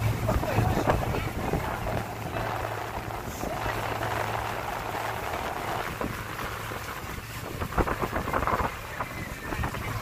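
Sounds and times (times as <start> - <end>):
boat engine humming: 0.0 - 10.0
water splashing along hull: 0.0 - 10.0.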